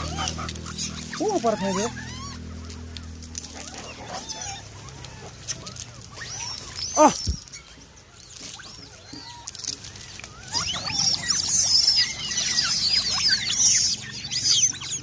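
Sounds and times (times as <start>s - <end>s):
monkeys squealing: 0.0s - 15.0s.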